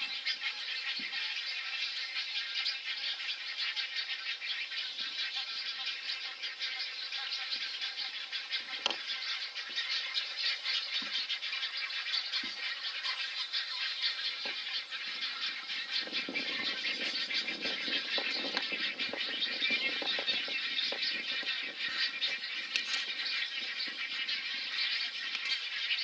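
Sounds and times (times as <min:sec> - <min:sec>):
low harsh bird calls: 0:00.0 - 0:26.0.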